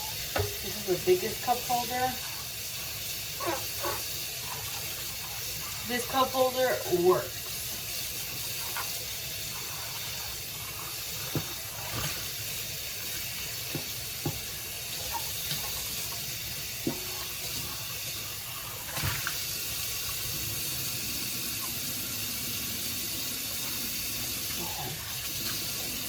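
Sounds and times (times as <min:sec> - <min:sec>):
plastic pieces washed by hand: 0:00.0 - 0:22.4
water running from a tap: 0:00.0 - 0:26.0.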